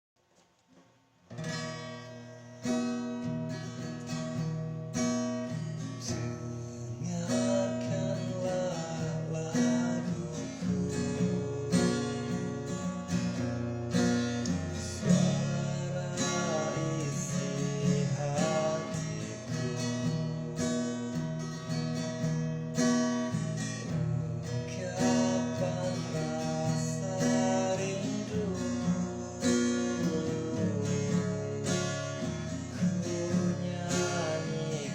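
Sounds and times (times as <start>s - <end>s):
strummed acoustic guitar: 0.7s - 34.9s.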